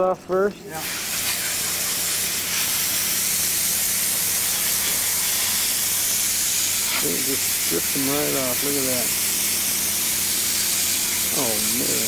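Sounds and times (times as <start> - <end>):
high-pressure water jet hissing: 0.7 - 12.0.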